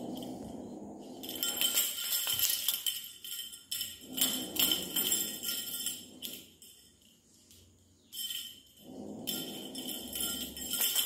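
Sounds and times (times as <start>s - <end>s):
small bells jingling: 0.0s - 11.0s.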